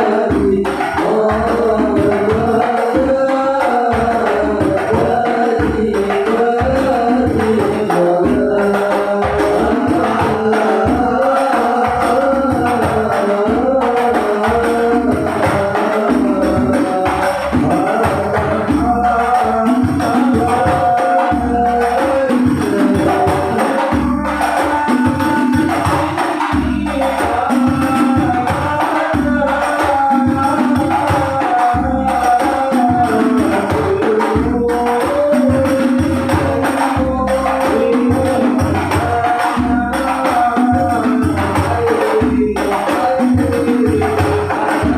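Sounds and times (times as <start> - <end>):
frame drums beating: 0.0 - 44.9
person singing melody: 0.0 - 44.9.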